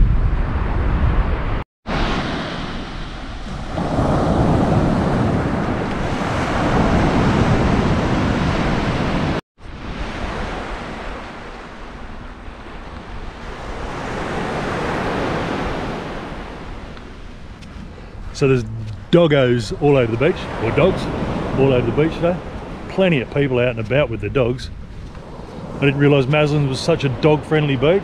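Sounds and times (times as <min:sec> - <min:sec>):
wind buffeting the microphone: 0:00.0 - 0:28.0
waves breaking on a beach: 0:01.9 - 0:28.0.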